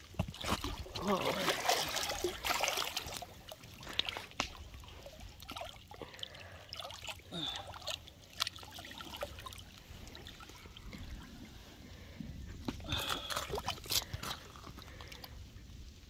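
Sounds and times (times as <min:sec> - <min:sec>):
water trickling and lapping: 0:00.0 - 0:16.0.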